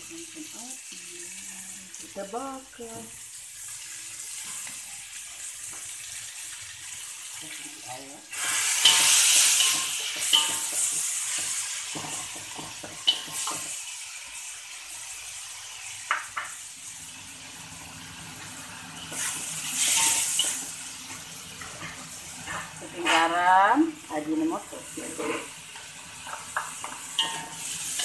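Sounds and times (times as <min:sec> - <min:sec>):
frying in a wok: 0:00.0 - 0:28.0.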